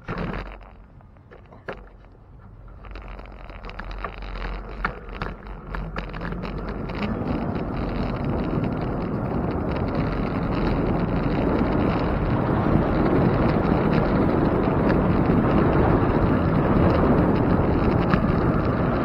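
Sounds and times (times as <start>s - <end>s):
bicycle clicks and rattles: 0.0s - 19.0s
wind buffeting microphone: 2.2s - 19.0s.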